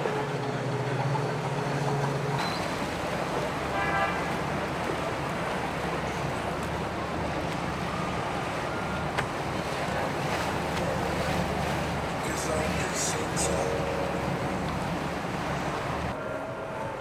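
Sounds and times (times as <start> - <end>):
boat motors running: 0.0 - 17.0
water noise: 0.0 - 17.0.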